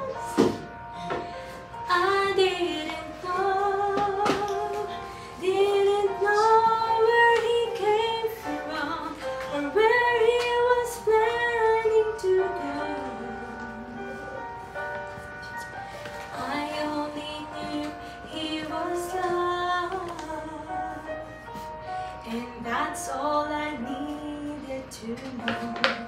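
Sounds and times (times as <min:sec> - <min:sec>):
woman singing: 0:00.0 - 0:01.2, 0:01.8 - 0:14.4, 0:16.2 - 0:21.5, 0:22.2 - 0:26.0.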